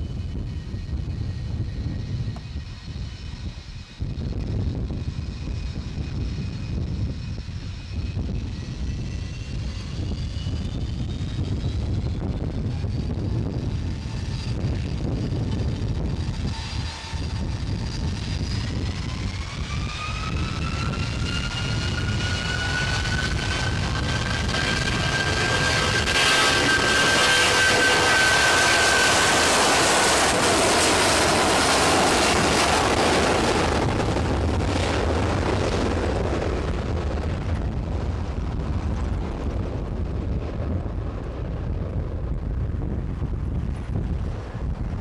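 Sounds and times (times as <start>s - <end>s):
jet engines spooling up: 0.0s - 45.0s.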